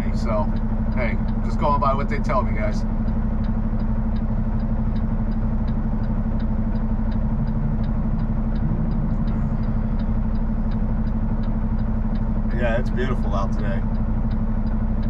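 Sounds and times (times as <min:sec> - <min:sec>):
diesel engine idling: 0:00.0 - 0:15.0
light ticking: 0:00.0 - 0:15.0.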